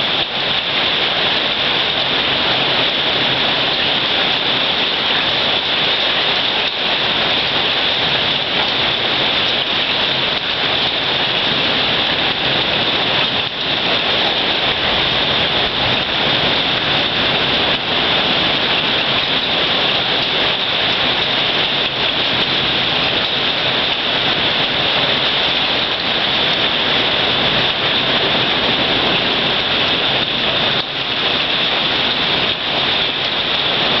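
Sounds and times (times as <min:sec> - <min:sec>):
hail and heavy rain falling: 0:00.0 - 0:34.0.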